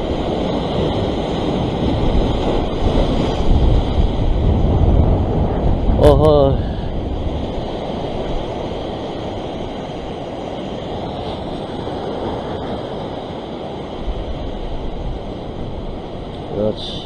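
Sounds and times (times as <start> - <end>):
ocean surf breaking on rocks: 0.0 - 17.0.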